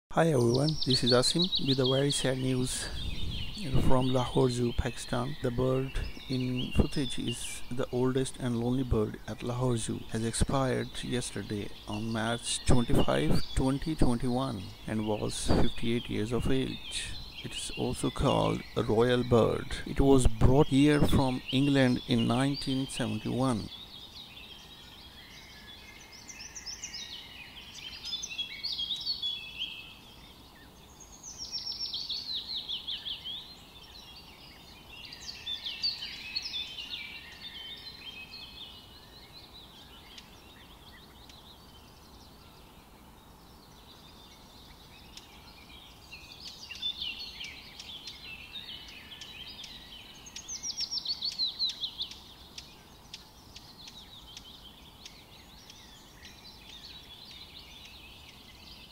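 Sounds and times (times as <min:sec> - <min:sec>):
faint background noise: 0:00.1 - 0:58.9
songbirds chirping and trilling: 0:00.1 - 0:58.9.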